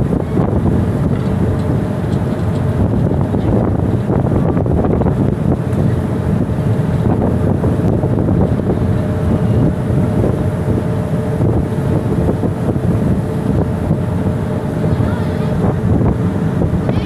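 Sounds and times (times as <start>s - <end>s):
rough sea rushing: 0.0s - 17.0s
ship engine running: 0.0s - 17.0s
wind buffeting microphone: 0.0s - 17.0s.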